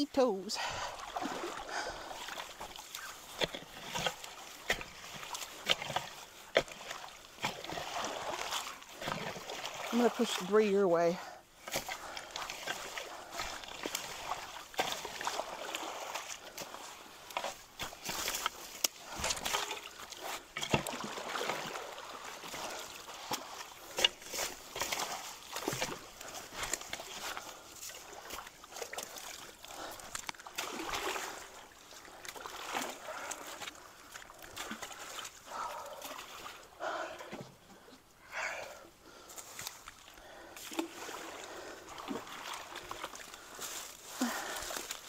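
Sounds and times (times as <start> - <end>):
faint flowing creek water: 0.0 - 45.0
sharp splashes and knocks: 0.8 - 10.6, 11.6 - 36.7, 39.4 - 45.0.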